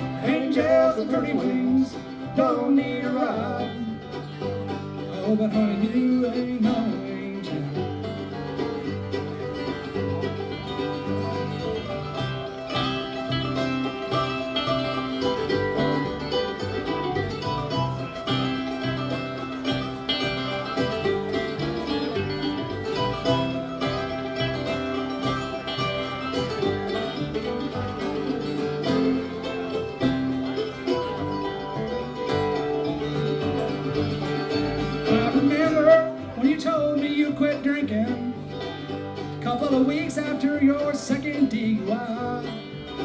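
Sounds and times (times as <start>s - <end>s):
banjo picking: 0.0s - 43.0s
bowed fiddle: 0.0s - 43.0s
guitar picking: 0.0s - 43.0s.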